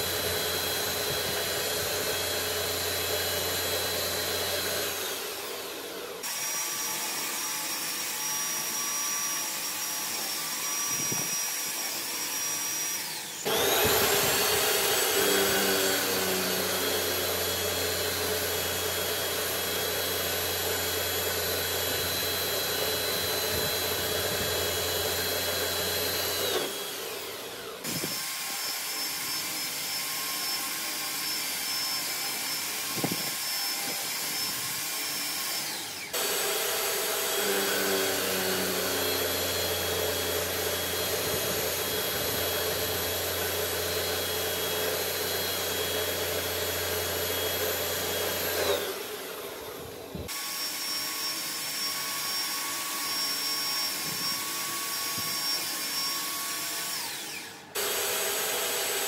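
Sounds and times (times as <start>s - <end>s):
milling motor whine: 0.0s - 6.5s, 12.4s - 34.8s, 35.5s - 56.3s.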